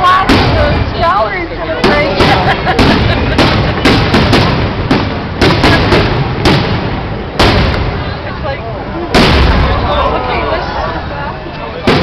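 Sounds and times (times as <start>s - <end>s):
fireworks bangs: 0.0s - 10.7s, 11.6s - 12.0s
continuous rumble: 0.0s - 12.0s.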